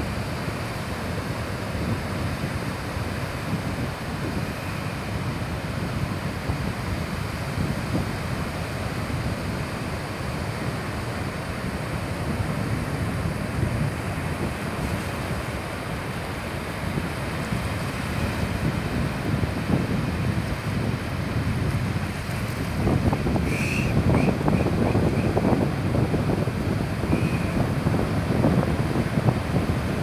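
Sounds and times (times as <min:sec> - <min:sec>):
sea surf breaking on beach: 0:00.0 - 0:30.0
wind buffeting microphone: 0:01.5 - 0:10.2, 0:11.4 - 0:15.7, 0:16.6 - 0:30.0.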